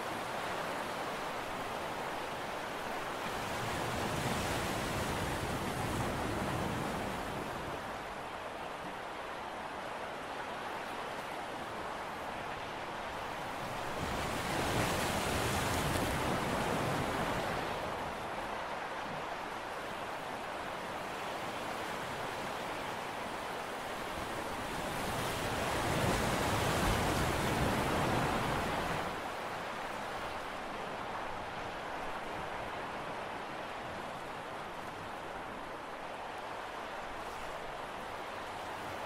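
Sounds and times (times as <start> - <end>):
sea waves washing ashore: 0.0 - 39.0.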